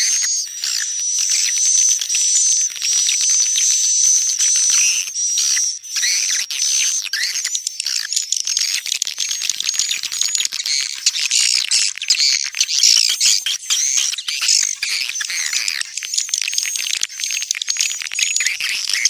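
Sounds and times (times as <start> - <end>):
swiftlets twittering and chirping: 0.0 - 19.0.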